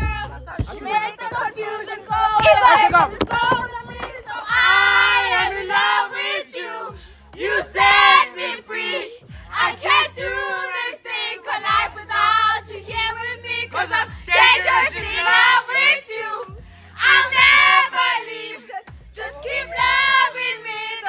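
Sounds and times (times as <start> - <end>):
music with deep bass: 0.0 - 21.0
women singing along: 0.0 - 21.0.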